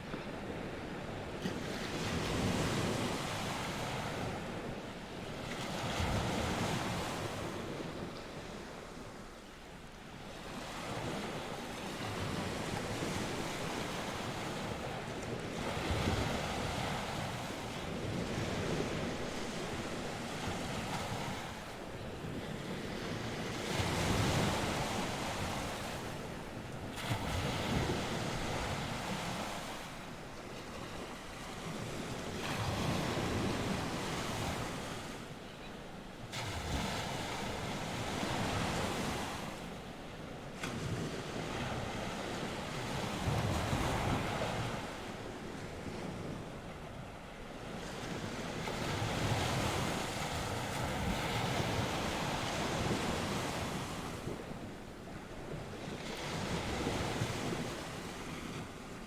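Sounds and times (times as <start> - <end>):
waves breaking on shore: 0.0 - 59.0
wind: 0.0 - 59.0.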